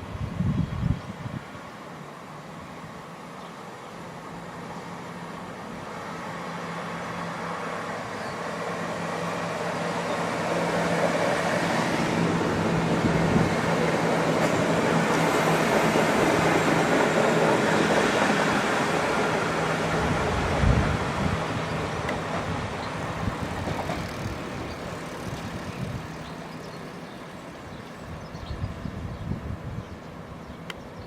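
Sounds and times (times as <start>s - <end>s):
train approaching: 0.0s - 31.0s.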